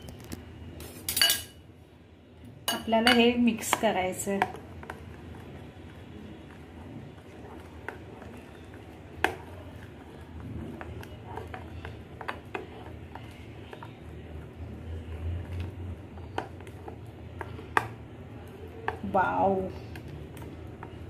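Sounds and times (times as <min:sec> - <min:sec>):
low steady hum: 0:00.0 - 0:21.0
spoon stirring thick paste: 0:02.0 - 0:21.0.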